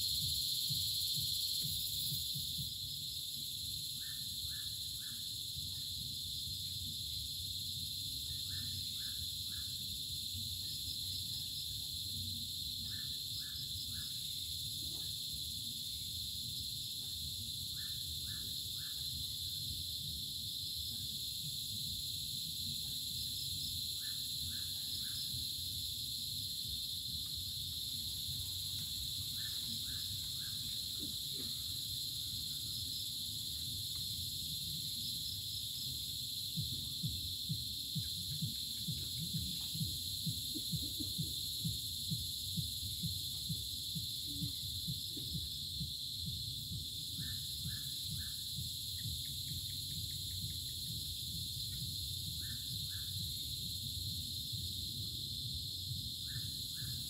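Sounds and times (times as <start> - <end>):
crickets and cicadas chorus: 0.0 - 57.0.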